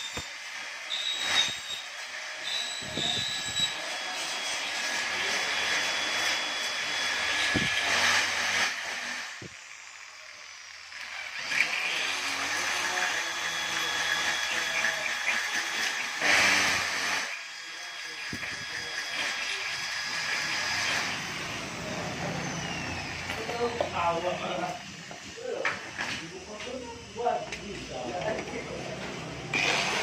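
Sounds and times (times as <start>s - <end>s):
electric drill boring through metal: 0.0s - 30.0s.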